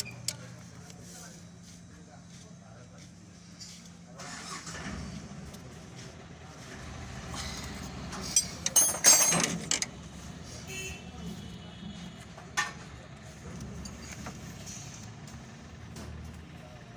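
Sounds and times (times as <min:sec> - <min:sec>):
diesel engine idling: 0:00.0 - 0:08.8, 0:09.5 - 0:16.9.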